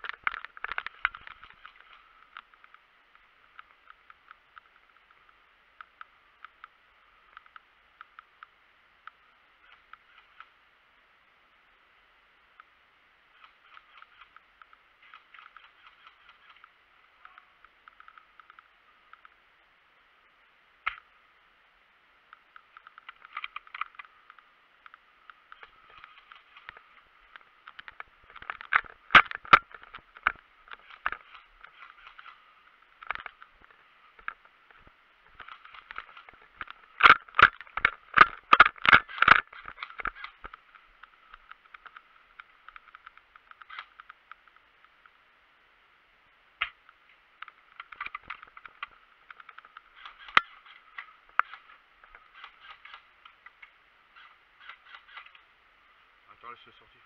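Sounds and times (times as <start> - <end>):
muffled hiss: 0.0 - 57.0.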